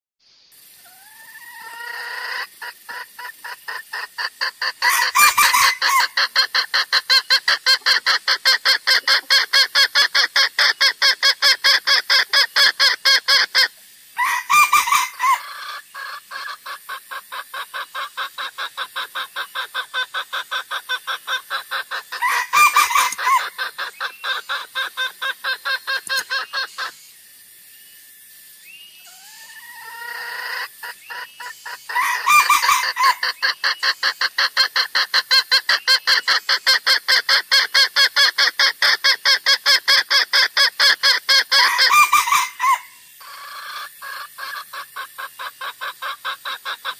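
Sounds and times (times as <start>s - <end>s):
harsh bird calls: 0.8s - 27.2s, 28.8s - 46.9s
bird clucking rapidly: 1.3s - 27.0s, 29.1s - 46.9s.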